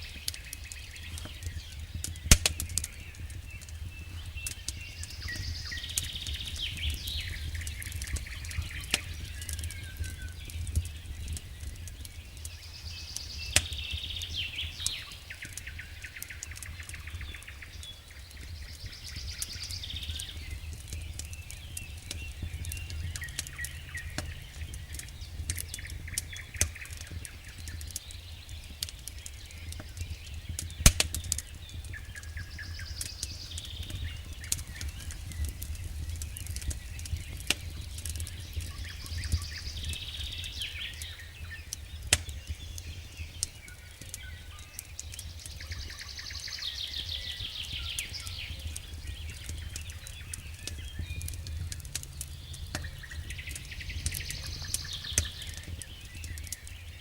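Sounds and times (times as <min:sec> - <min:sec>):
fire crackling and popping: 0:00.0 - 0:57.0
fire rumbling: 0:00.0 - 0:57.0.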